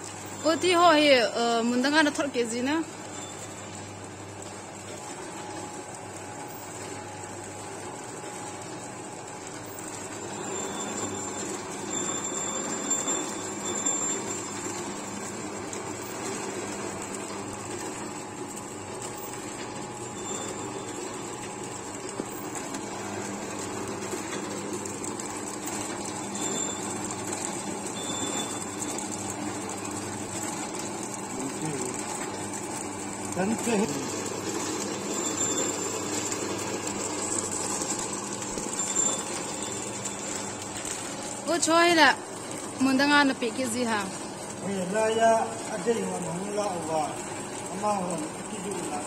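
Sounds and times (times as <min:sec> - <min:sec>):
packing machine running: 0:00.0 - 0:49.0.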